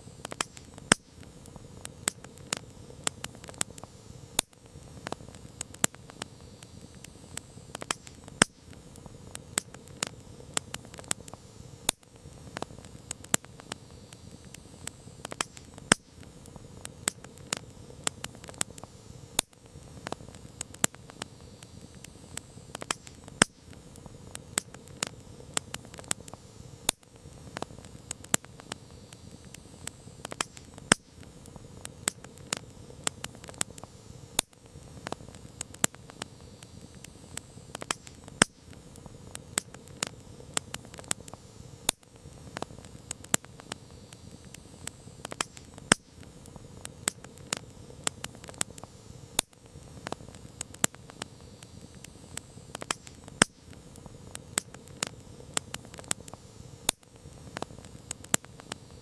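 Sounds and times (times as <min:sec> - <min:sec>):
campfire crackling and popping: 0:00.0 - 0:59.0
hiss of burning wood: 0:00.0 - 0:59.0.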